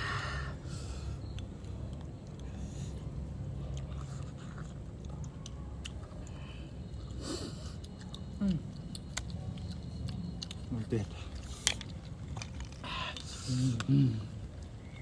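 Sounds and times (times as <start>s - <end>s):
person chewing food: 1.1s - 15.0s.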